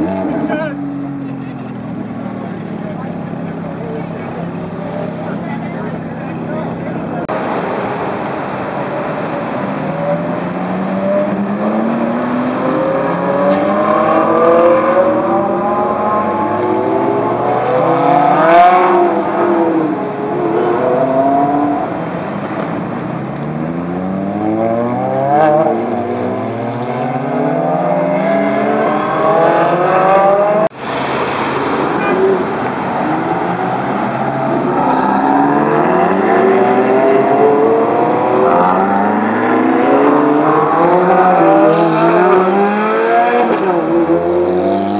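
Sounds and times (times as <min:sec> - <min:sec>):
sports cars accelerating hard: 0:00.0 - 0:44.9.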